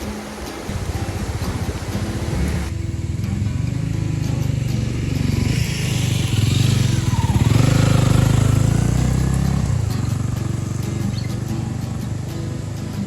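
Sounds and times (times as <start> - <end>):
motorcycle engine running: 0.7 - 13.0.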